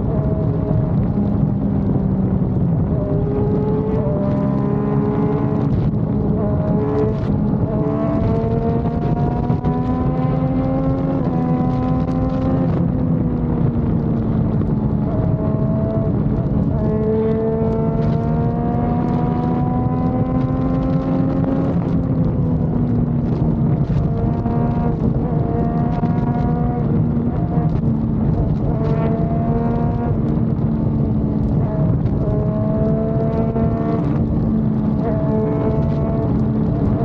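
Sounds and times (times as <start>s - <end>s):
motorcycle engine running: 0.0s - 37.0s
wind rush on microphone: 0.0s - 37.0s.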